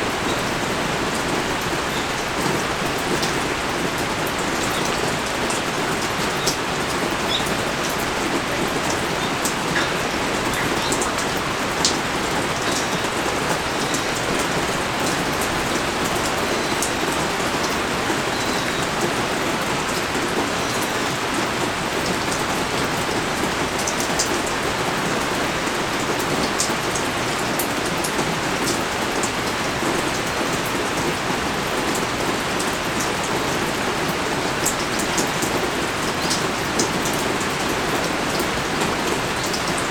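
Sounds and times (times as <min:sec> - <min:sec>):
heavy rain pouring: 0:00.0 - 0:39.9
raindrops clicking close by: 0:00.0 - 0:39.9.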